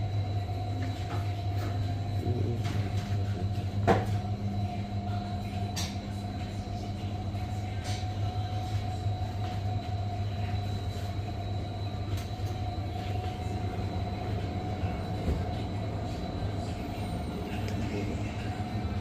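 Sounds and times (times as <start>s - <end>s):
faint steady whine: 0.0s - 19.0s
low machinery hum: 0.0s - 19.0s.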